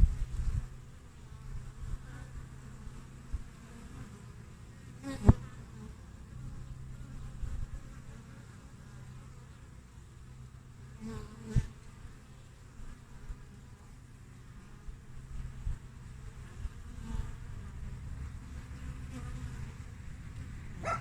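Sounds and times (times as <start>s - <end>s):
bee buzzing past: 0.0s - 21.0s
bees humming at hive: 0.0s - 21.0s.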